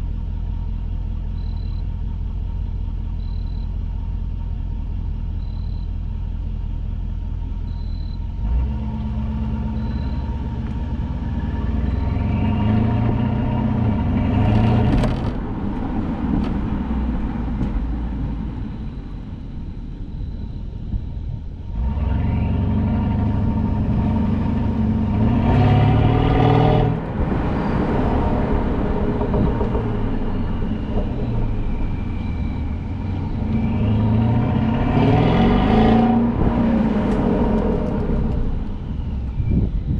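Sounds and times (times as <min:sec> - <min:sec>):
car engine revving: 0:01.3 - 0:39.9.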